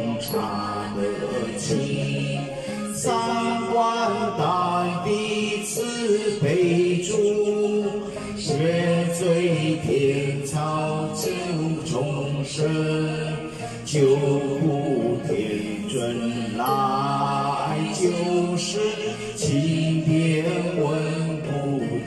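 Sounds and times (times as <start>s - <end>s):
accompanying music with low notes: 0.0s - 22.0s
man singing into microphone: 0.0s - 22.0s.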